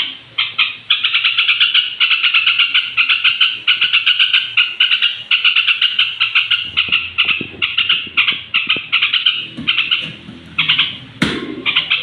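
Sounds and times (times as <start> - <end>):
bird chattering: 0.0 - 12.0.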